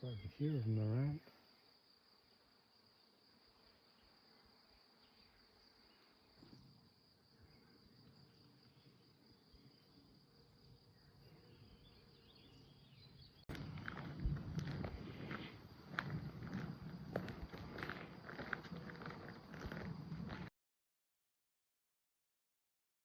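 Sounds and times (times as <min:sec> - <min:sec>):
crickets chirring: 0:00.0 - 0:20.5.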